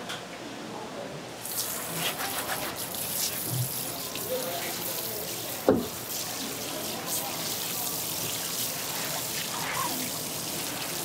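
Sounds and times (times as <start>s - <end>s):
water spraying from hose nozzle: 1.4s - 11.0s.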